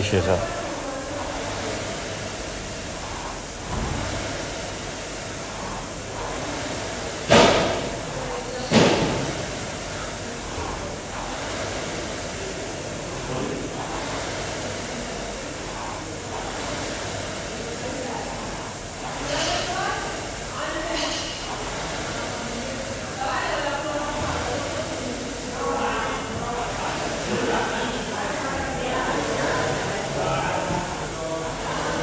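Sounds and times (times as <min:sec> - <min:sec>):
rowing machine flywheel whooshing: 0:00.0 - 0:32.0.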